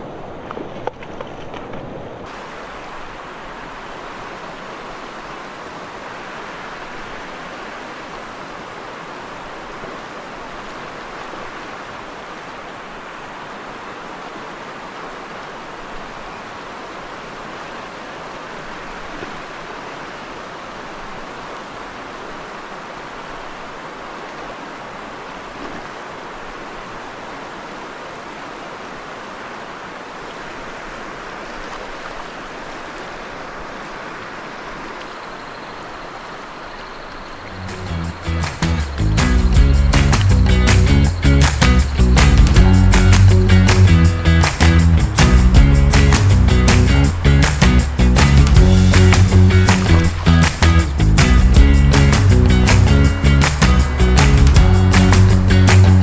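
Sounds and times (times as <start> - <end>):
river water rushing: 1.9 - 56.0.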